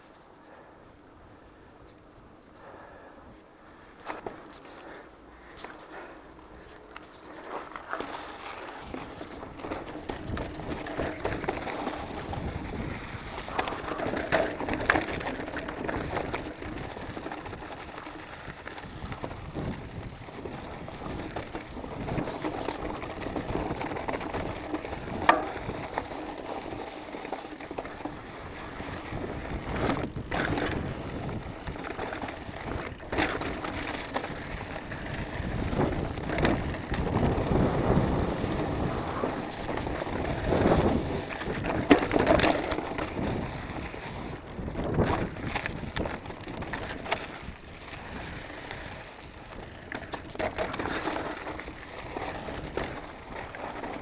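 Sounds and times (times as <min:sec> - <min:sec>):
bike rattling: 0:00.0 - 0:54.0
bike tyres crunching over gravel: 0:00.0 - 0:54.0
wheels knocking on rocks: 0:03.9 - 0:54.0.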